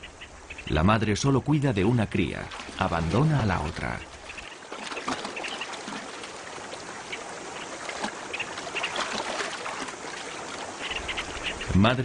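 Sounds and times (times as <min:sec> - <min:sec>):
shallow river water splashing: 0:00.0 - 0:12.0.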